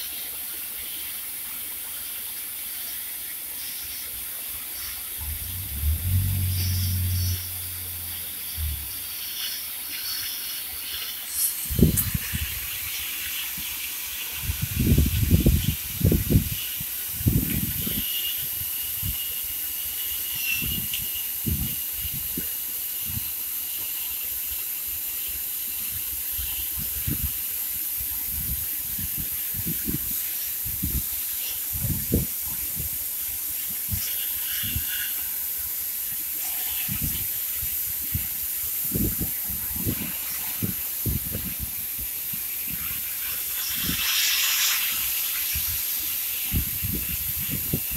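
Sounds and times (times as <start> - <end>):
cutting torch hissing: 2.3 - 47.9.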